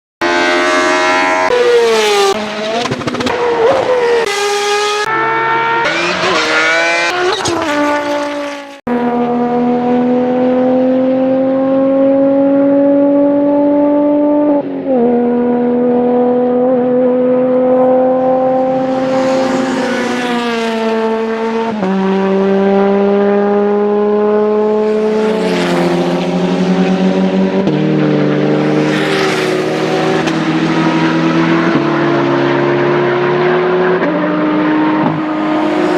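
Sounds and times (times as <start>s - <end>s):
race car engine accelerating: 0.2s - 35.9s
race car engines passing: 0.2s - 35.9s.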